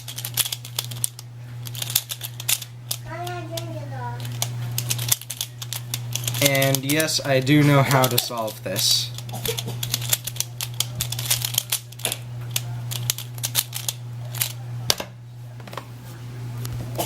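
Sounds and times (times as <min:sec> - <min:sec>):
puzzle plastic clicks: 0:00.0 - 0:14.6.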